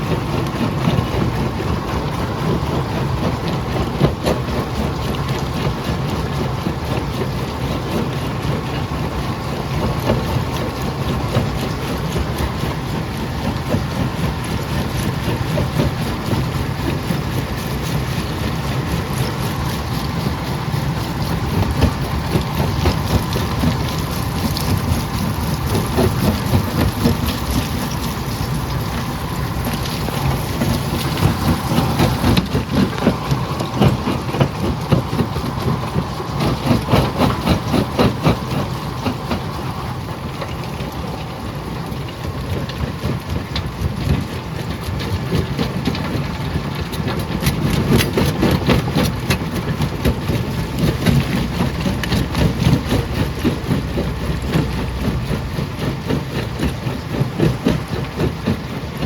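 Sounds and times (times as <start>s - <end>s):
jaw crusher machine drone: 0.0s - 59.0s.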